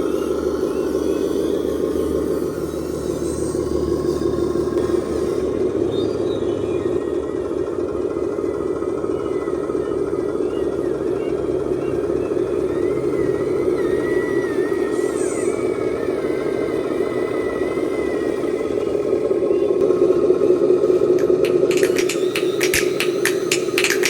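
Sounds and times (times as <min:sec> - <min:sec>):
toy truck motor whining: 0:00.0 - 0:24.0.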